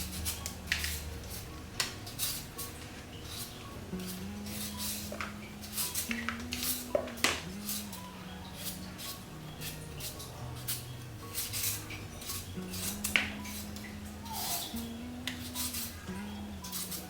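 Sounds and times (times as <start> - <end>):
kitchen utensils and dishes clinking: 0.0 - 17.0
soft background music: 0.0 - 17.0.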